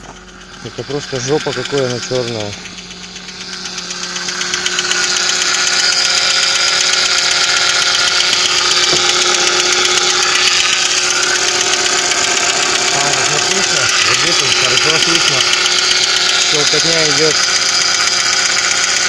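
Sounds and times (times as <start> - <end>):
engine running with knocking rattle: 0.0 - 19.0.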